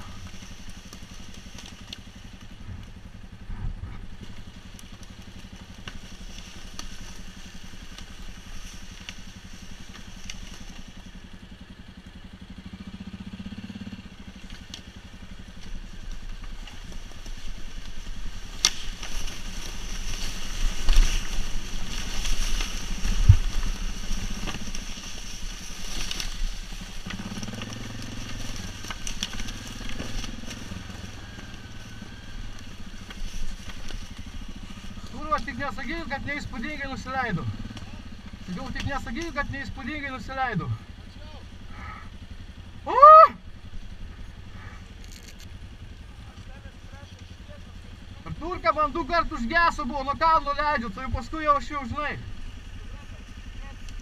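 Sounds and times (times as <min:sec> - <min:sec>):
tyres crunching leaves and twigs: 0:00.0 - 0:42.8, 0:43.4 - 0:54.0
quad engine running: 0:00.0 - 0:54.0.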